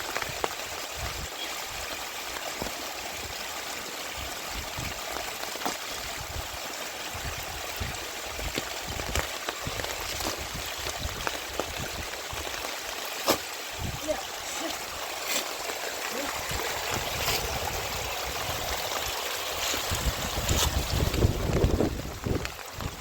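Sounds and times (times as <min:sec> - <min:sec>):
heavy rain: 0:00.0 - 0:23.0
water drops and drips: 0:00.0 - 0:23.0.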